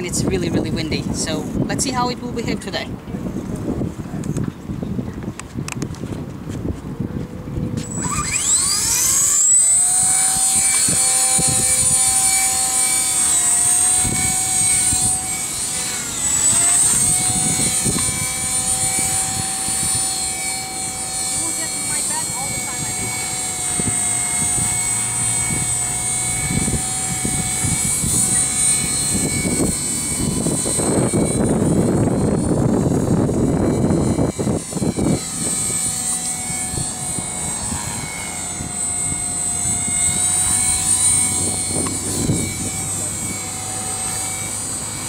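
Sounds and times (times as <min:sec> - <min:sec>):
rc helicopter motor whine: 0:00.0 - 0:45.0
wind buffeting microphone: 0:00.0 - 0:45.0.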